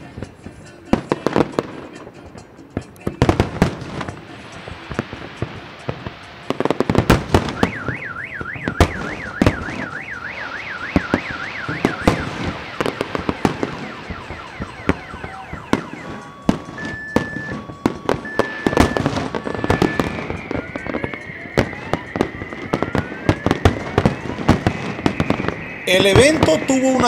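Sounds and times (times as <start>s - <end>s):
fireworks bursting with sharp bangs: 0.0s - 27.0s
car alarm wailing: 3.0s - 27.0s.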